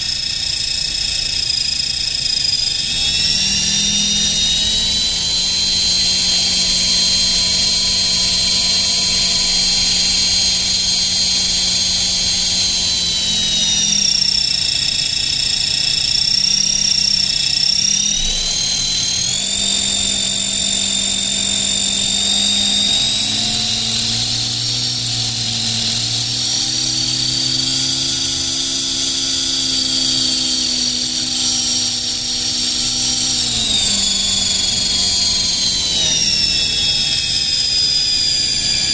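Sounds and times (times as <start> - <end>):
model helicopter motor whining: 0.0 - 38.9.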